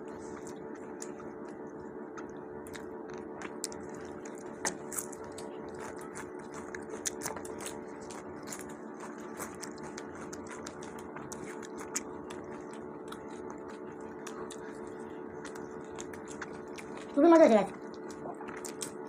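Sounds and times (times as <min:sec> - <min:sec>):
people chewing food: 0:00.0 - 0:19.0
steady low hum: 0:00.0 - 0:19.0.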